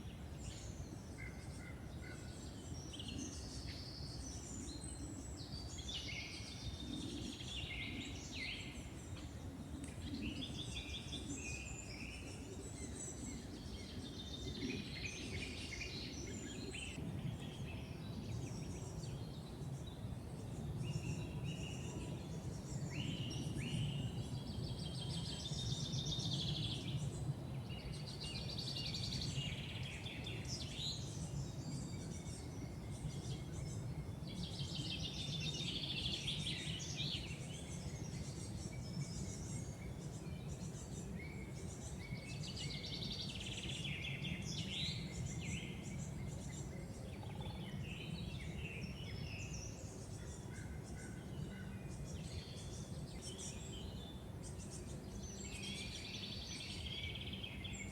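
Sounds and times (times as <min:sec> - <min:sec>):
birds singing and calling: 0:00.4 - 0:57.9.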